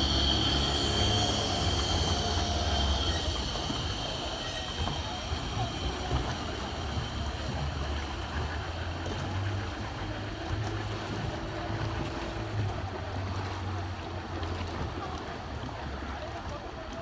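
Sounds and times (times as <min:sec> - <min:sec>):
motorboat engine drone: 0:00.0 - 0:17.0.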